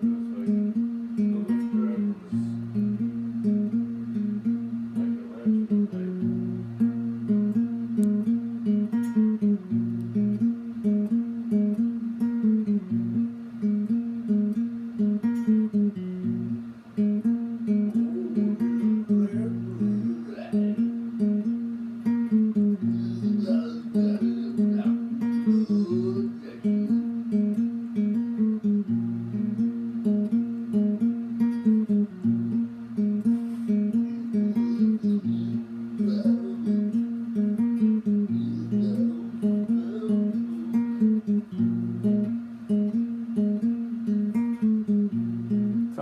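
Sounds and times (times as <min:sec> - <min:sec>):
acoustic guitar picking: 0:00.0 - 0:46.0.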